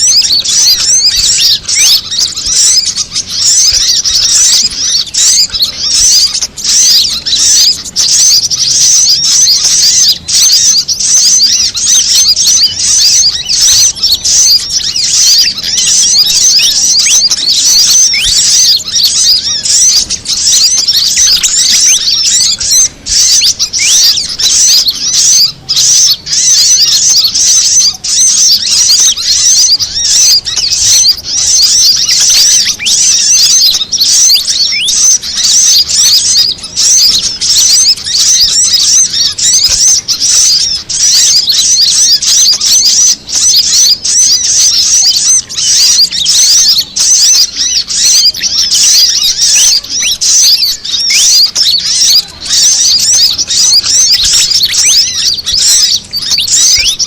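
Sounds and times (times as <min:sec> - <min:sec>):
fantail bird calls: 0:00.0 - 0:57.0
sunbird calls: 0:00.0 - 0:57.0.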